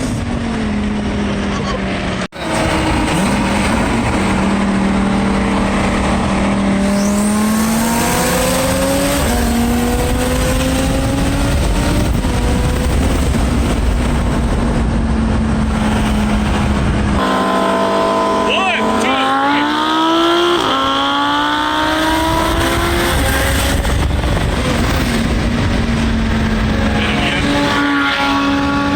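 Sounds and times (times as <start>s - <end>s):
sports car engine accelerating: 0.0s - 28.9s
wind and road noise: 0.0s - 28.9s.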